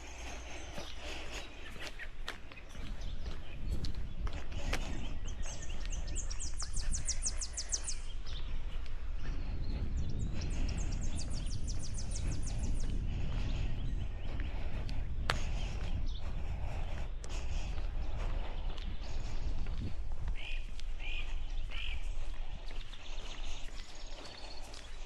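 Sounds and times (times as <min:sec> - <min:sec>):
low rumble of wind: 0:00.0 - 0:25.0
songbird singing: 0:00.0 - 0:25.0.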